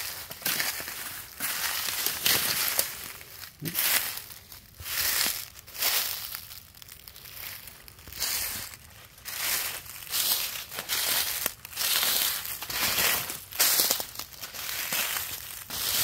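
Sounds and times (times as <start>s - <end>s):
footsteps crunching through dry brush: 0.0s - 16.0s.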